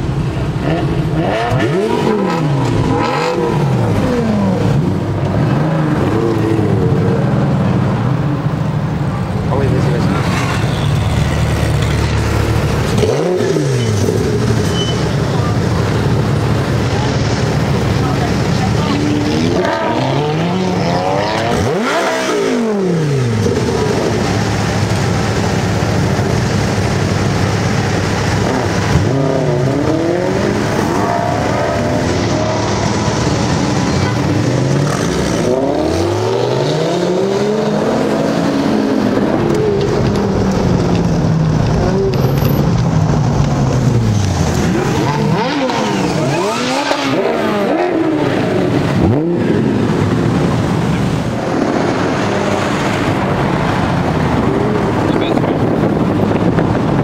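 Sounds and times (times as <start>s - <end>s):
sports car engine revving: 0.4s - 8.6s, 11.4s - 57.0s.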